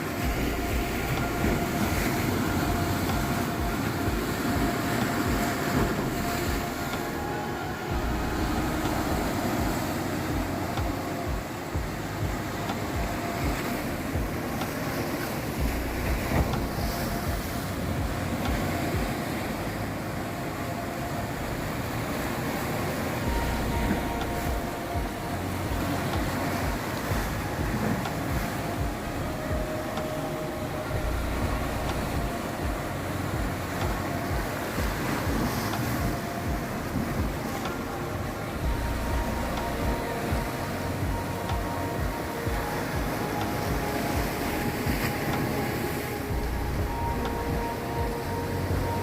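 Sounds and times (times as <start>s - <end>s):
sea waves breaking on rocks: 0.0s - 49.0s
wind on microphone: 0.0s - 49.0s.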